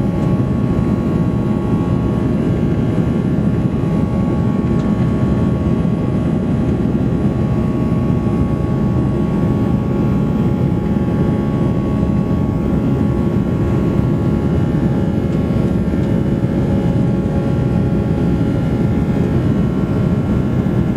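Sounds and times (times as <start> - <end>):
jet engine roar in cabin: 0.0 - 20.9.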